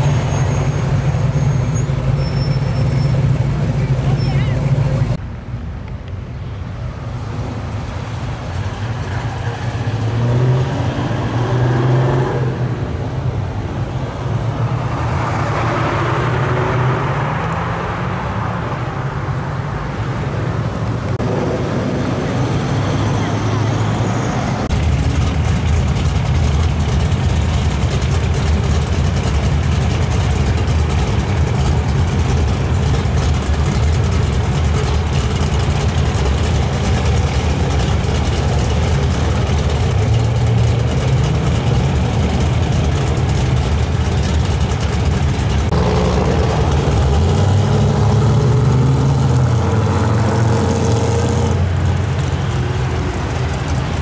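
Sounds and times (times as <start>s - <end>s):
car engines idling: 0.0s - 9.9s, 17.1s - 49.8s, 51.4s - 54.0s.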